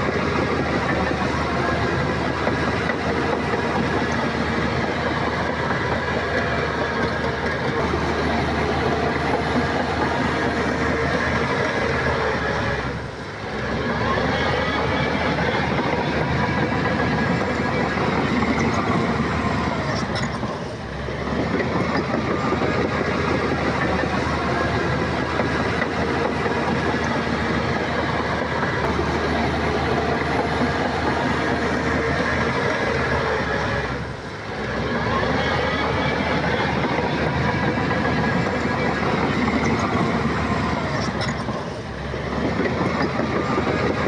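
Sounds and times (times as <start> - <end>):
heavy diesel machinery running: 0.0 - 44.0.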